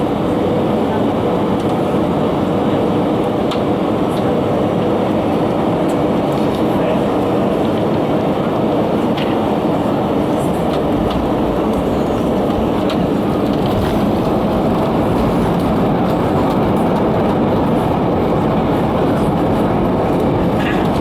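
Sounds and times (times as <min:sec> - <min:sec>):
airplane cabin engine roar: 0:00.0 - 0:21.0.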